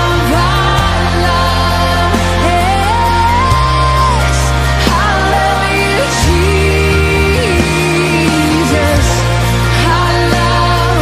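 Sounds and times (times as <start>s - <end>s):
keyboard and bass chords: 0.0s - 11.0s.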